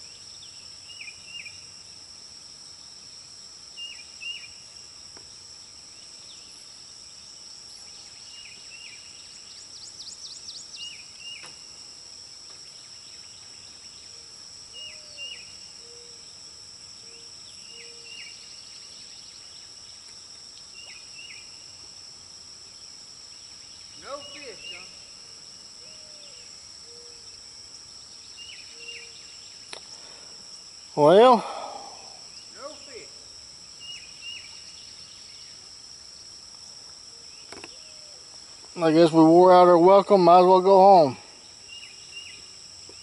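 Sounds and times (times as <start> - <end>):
insect chorus buzzing: 0.0 - 43.0.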